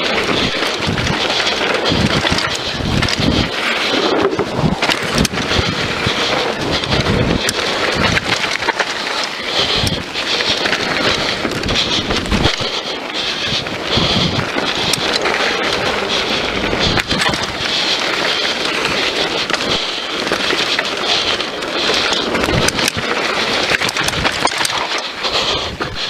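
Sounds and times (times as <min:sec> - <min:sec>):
wind on microphone: 0:00.0 - 0:08.8, 0:09.6 - 0:20.5, 0:22.0 - 0:26.0
bike clattering over bumps: 0:00.0 - 0:26.0
tyres rolling over dirt and stones: 0:00.0 - 0:26.0.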